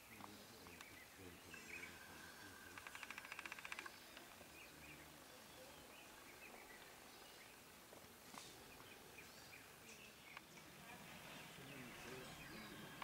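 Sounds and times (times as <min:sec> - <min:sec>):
faint bird chirps: 0:00.0 - 0:07.7, 0:08.3 - 0:13.0.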